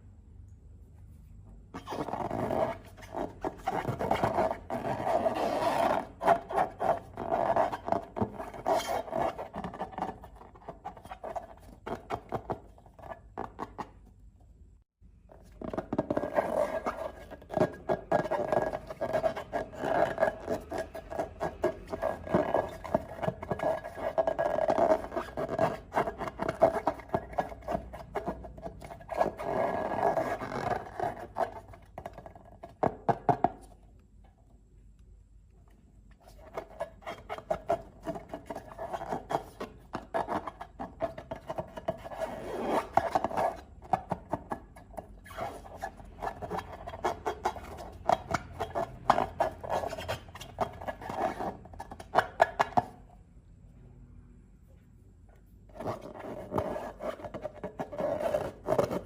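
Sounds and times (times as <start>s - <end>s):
rubbery scraping and squishing: 1.6s - 14.1s, 15.2s - 33.8s, 36.1s - 53.0s, 55.6s - 59.0s.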